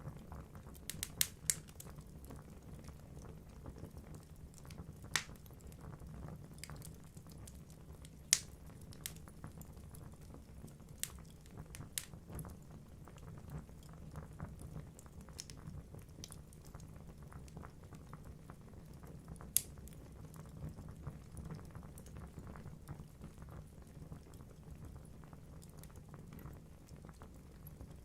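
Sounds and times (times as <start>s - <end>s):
logs crackling in fireplace: 0.0s - 28.0s
low rumble of flames: 0.0s - 28.0s.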